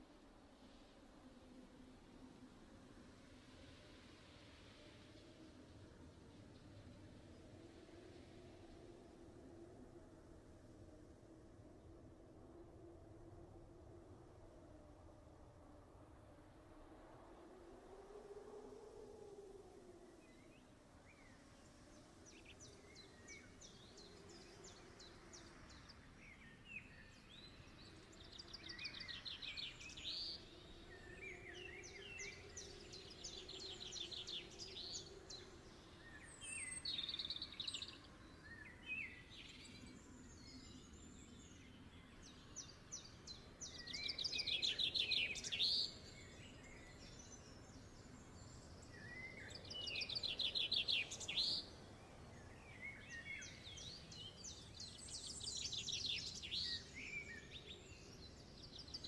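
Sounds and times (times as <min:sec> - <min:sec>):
faint background noise: 0:00.0 - 0:59.0.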